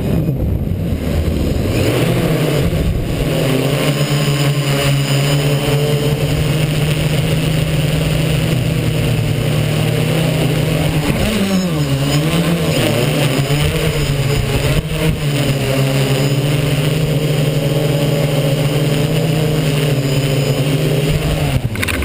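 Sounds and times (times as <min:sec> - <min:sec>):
drone propellers humming: 0:00.0 - 0:22.0.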